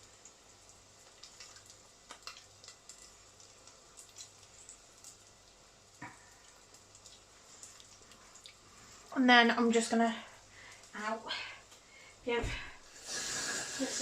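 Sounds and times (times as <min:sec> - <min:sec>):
frying pan sizzling: 0:00.0 - 0:11.2, 0:12.8 - 0:14.0
low steady hum: 0:00.0 - 0:13.0.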